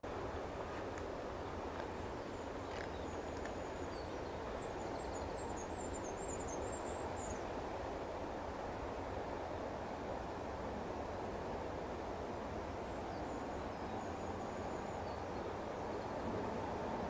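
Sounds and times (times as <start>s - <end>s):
low outdoor rush: 0.0s - 17.0s.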